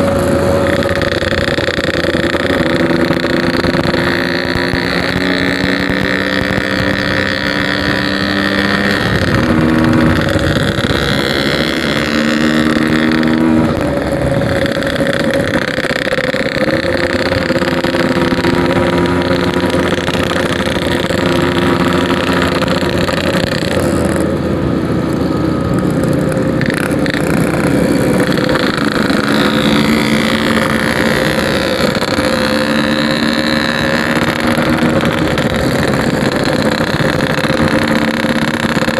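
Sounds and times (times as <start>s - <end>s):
two-stroke motorcycle engine: 0.0s - 38.9s
wind and road noise: 0.0s - 38.9s.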